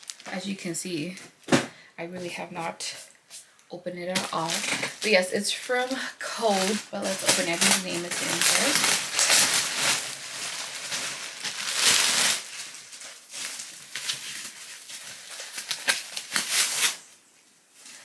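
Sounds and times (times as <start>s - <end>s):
plastic packaging crinkling: 0.0s - 1.2s, 4.0s - 18.0s.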